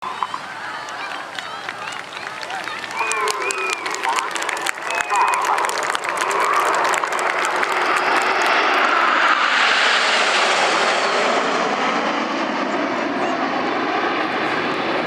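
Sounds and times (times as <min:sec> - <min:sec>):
jets flying past roaring: 0:00.1 - 0:15.0.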